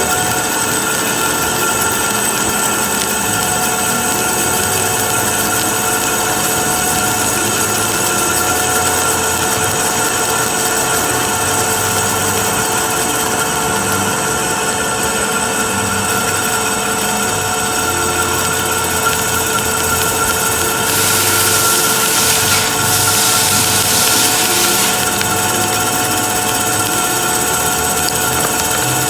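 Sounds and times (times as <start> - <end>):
machine tool whining: 0.0 - 29.0.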